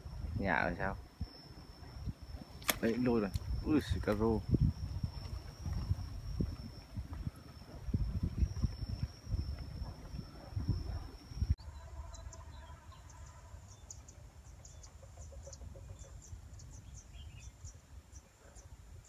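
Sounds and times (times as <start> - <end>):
wind rumble on microphone: 0.0 - 11.7, 14.7 - 19.0
insects buzzing and chirping: 0.0 - 19.0.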